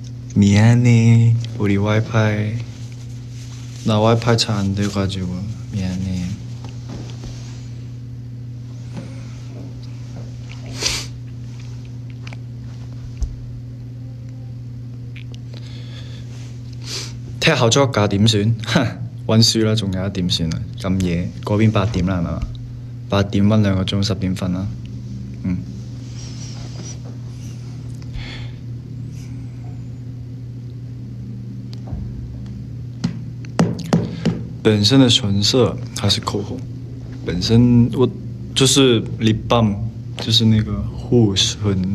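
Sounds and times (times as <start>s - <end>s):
low room hum: 0.0s - 41.9s.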